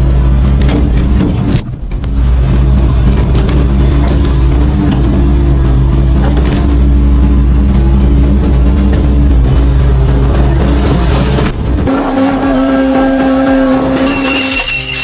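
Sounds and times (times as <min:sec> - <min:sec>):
heavy machine engine running: 0:00.0 - 0:14.6
background music: 0:00.0 - 0:15.0.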